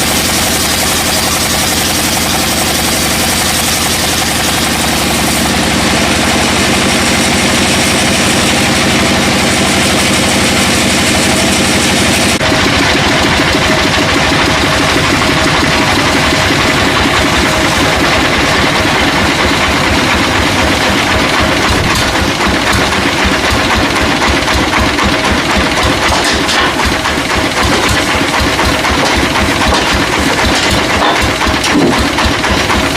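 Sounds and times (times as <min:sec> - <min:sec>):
engine running steadily: 0:00.0 - 0:32.9
steady whine: 0:00.0 - 0:32.9.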